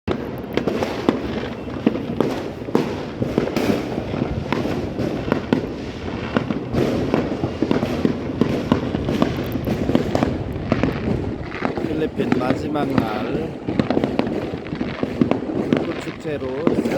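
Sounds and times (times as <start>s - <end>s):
fireworks and firecrackers banging: 0.1s - 16.9s.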